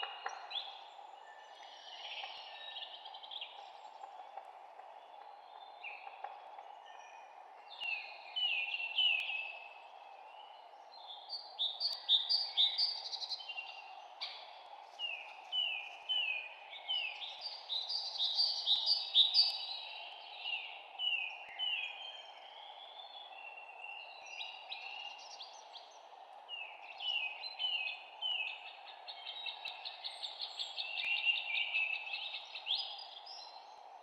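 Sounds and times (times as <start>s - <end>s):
songbirds chirping: 0.0s - 34.0s.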